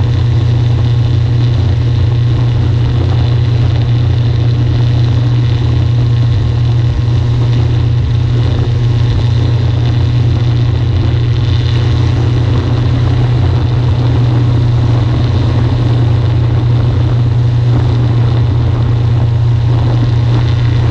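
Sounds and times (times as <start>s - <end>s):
light aircraft engine drone: 0.0s - 20.9s.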